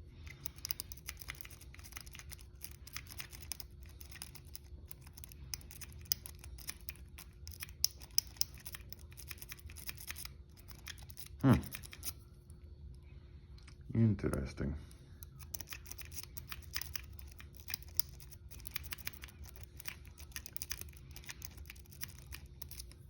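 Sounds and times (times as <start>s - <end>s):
lock pick scraping inside padlock: 0.2s - 12.2s, 15.2s - 23.0s.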